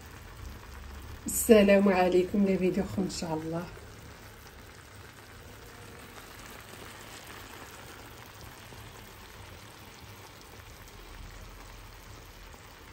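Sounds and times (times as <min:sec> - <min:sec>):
sauce crackling and bubbling: 0:00.0 - 0:12.9.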